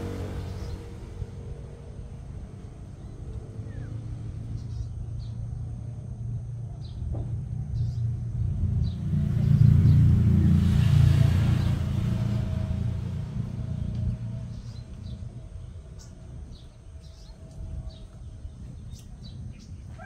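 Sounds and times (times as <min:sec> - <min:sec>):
vehicle passing rumble: 0:00.0 - 0:20.0.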